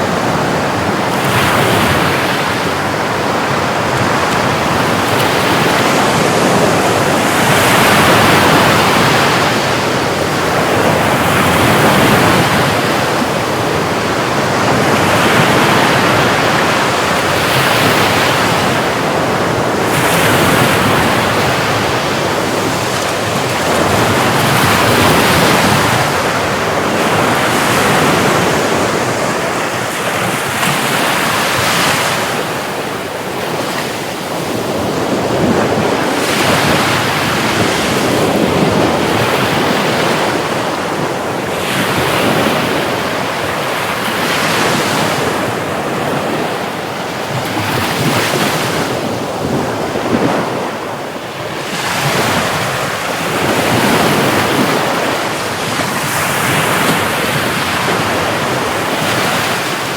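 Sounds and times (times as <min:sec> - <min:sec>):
sea waves breaking: 0:00.0 - 0:59.9
wind on microphone: 0:00.0 - 0:59.9.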